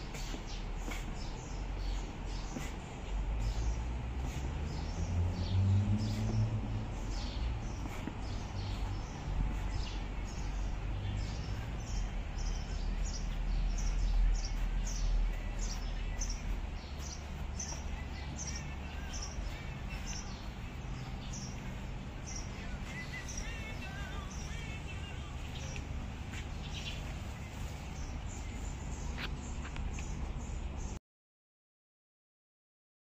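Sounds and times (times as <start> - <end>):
small bird chirping: 0.1 - 31.0.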